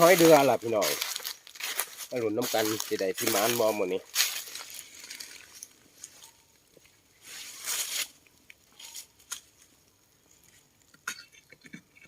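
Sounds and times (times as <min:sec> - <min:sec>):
faint rustling and crackling: 0:00.0 - 0:12.0.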